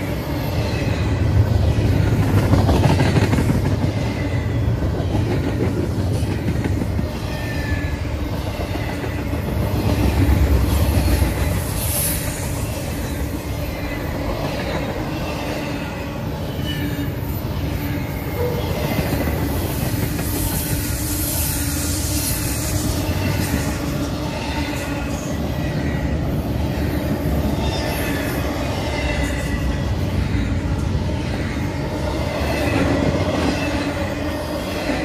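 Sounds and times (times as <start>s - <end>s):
freight train rumbling and rattling: 0.0s - 35.0s.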